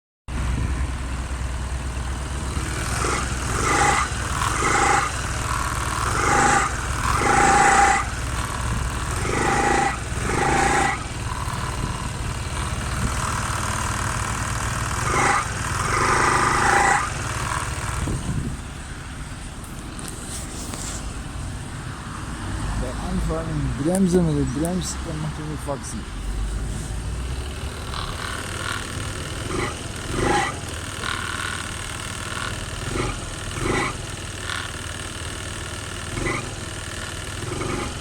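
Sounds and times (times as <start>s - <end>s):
moped engine idling: 0.3s - 26.3s, 27.1s - 38.0s.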